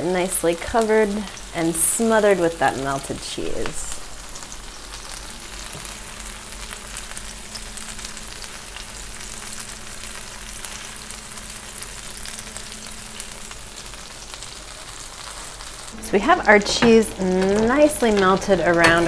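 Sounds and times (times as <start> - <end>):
cheese sizzling on a griddle: 0.0 - 19.0.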